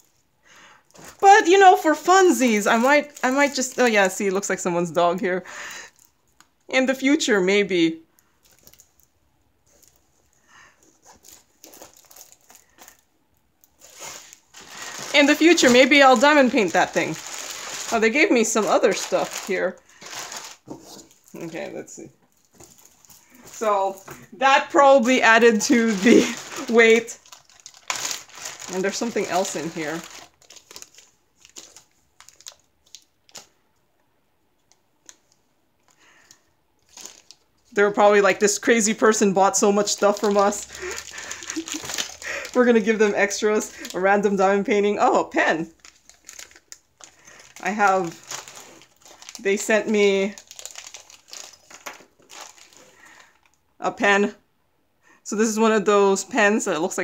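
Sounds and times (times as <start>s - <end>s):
plastic sleeve crinkling: 0.9s - 6.5s, 8.3s - 33.6s, 35.0s - 53.6s.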